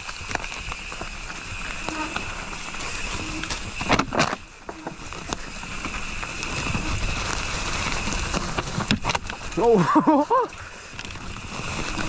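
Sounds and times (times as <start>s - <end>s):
bike frame rattle: 0.0s - 12.0s
bike tyres rumbling on dirt: 0.0s - 12.0s.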